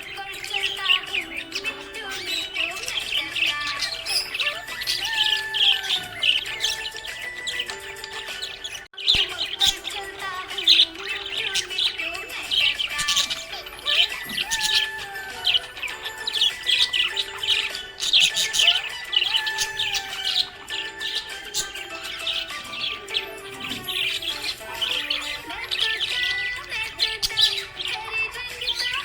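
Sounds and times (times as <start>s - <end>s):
budgerigars chirping: 0.0s - 29.0s.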